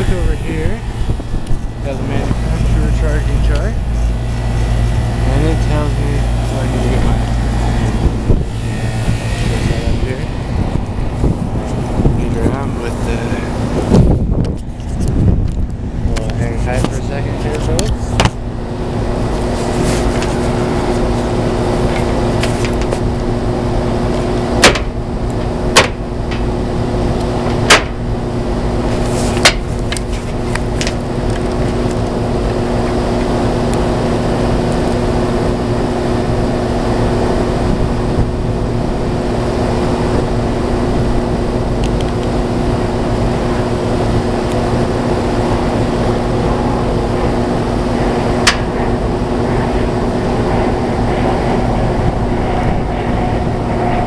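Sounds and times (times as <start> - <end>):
air conditioning unit humming: 0.0 - 54.0.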